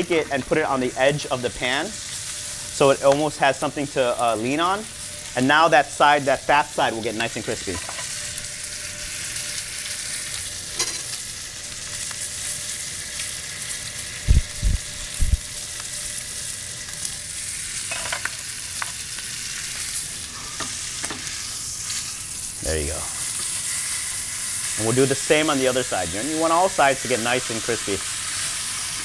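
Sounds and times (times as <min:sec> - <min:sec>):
steak fat sizzling in a pan: 0:00.0 - 0:29.0.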